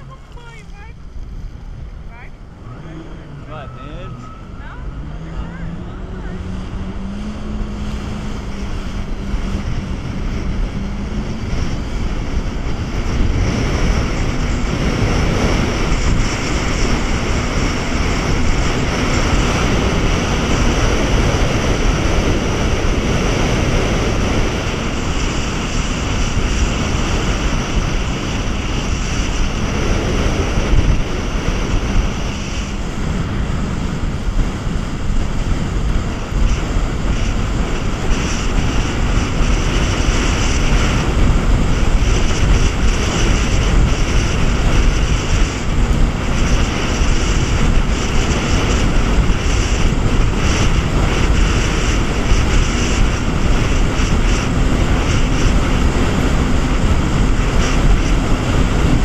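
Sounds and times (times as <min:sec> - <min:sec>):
jet ski engine with high whine: 0:00.0 - 0:59.0
wind rushing over microphone: 0:00.0 - 0:59.0.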